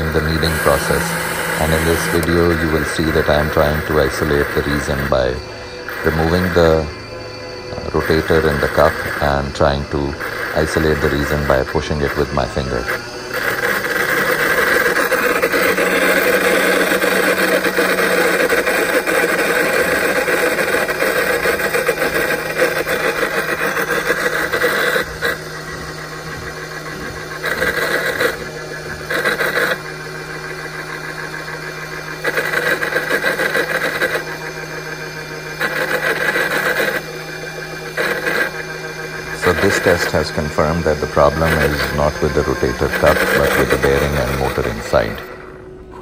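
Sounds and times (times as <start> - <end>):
abnormal machine noise: 0.0 - 46.0
steady motor hum: 0.0 - 46.0.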